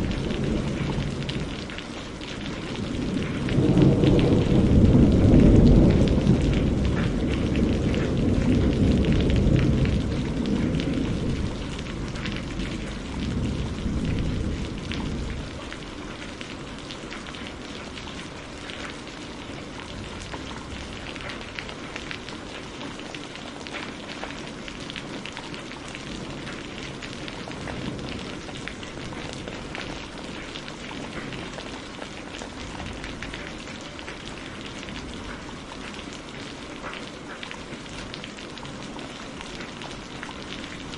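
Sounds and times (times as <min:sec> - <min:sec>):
thunder rumbling: 0:00.0 - 0:23.0, 0:24.2 - 0:36.1
rain falling: 0:00.0 - 0:40.9.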